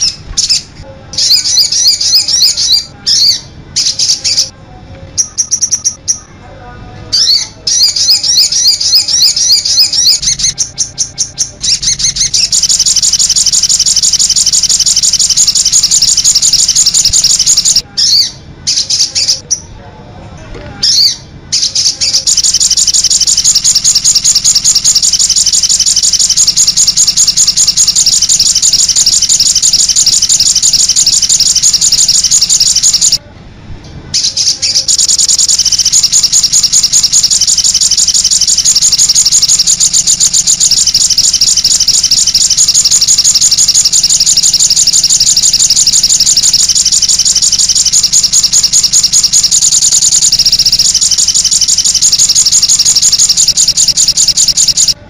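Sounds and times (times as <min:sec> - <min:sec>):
songbird twittering: 0:00.0 - 0:04.5, 0:05.2 - 0:06.3, 0:07.1 - 0:19.7, 0:20.8 - 0:33.2, 0:34.2 - 0:55.0.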